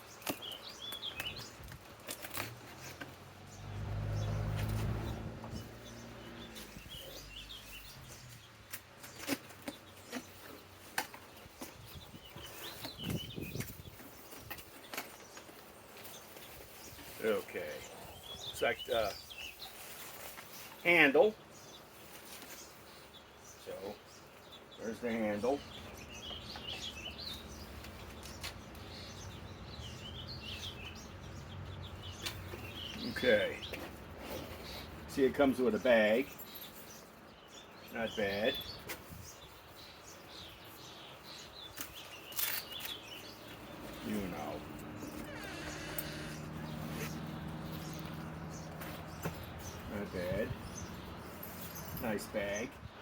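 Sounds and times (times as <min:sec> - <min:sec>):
bird chirping and warbling: 0:02.3 - 0:15.5, 0:20.5 - 0:53.0.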